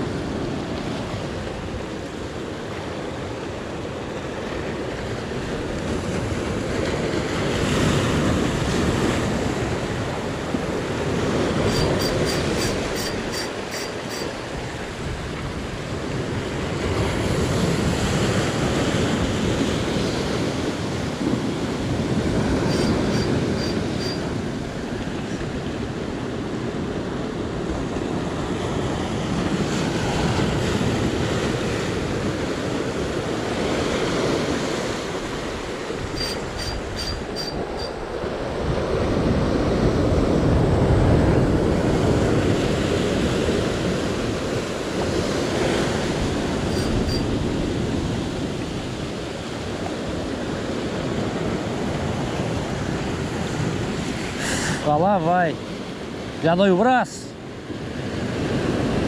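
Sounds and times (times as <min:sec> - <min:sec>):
sea surf washing in: 0:00.0 - 0:59.0
wind on microphone: 0:04.6 - 0:54.9.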